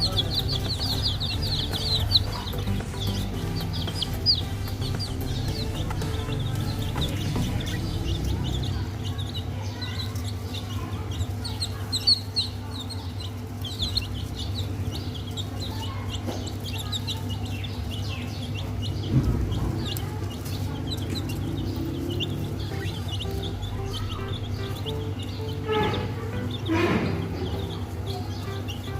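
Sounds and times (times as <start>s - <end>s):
baby chicks peeping: 0.0s - 28.9s.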